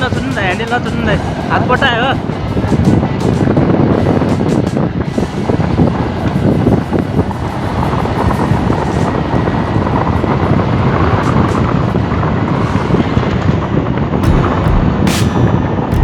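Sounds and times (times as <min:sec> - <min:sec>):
motorcycle running: 0:00.0 - 0:16.0
wind buffeting microphone: 0:00.0 - 0:16.0.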